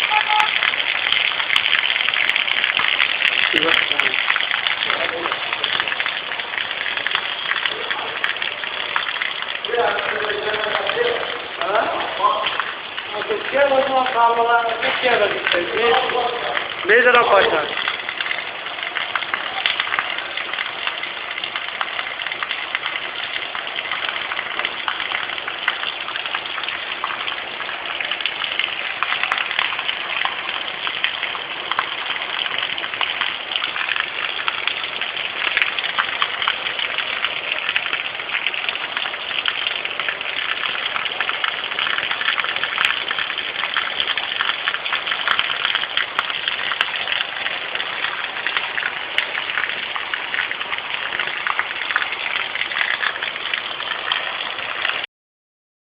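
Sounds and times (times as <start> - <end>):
heavy rain pouring: 0.0 - 55.1.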